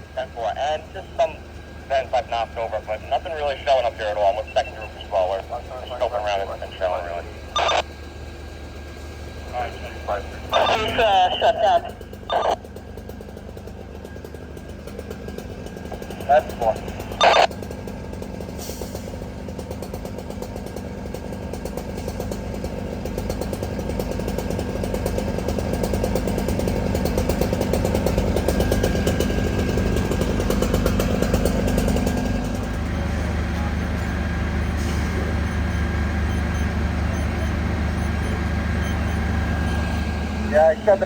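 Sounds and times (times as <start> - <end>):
heavy fire engine running: 0.0 - 41.0.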